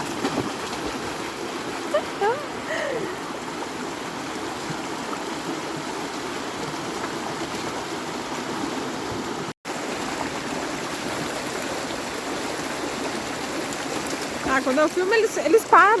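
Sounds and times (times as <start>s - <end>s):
creek rushing: 0.0s - 16.0s.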